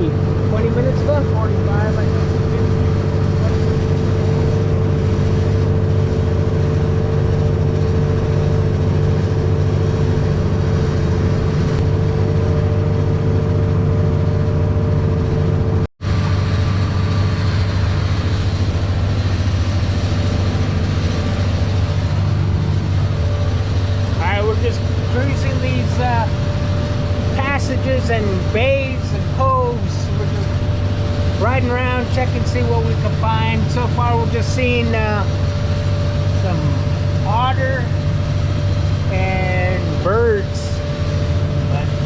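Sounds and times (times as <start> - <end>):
boat engine humming: 0.0 - 42.0.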